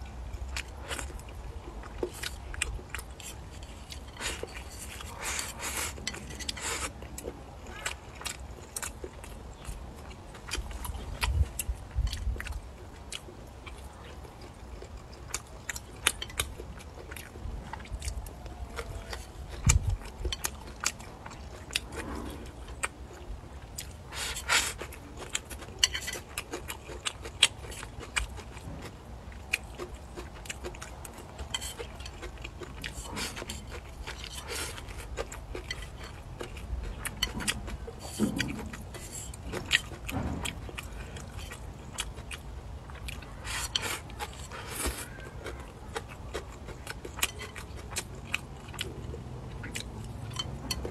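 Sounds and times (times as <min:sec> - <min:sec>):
biting and chewing: 0:00.0 - 0:50.9.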